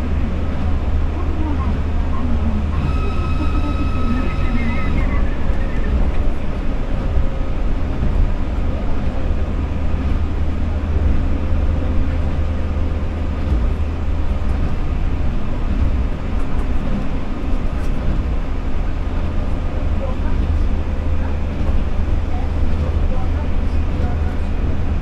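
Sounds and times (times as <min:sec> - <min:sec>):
monorail train rumble: 0:00.0 - 0:25.0.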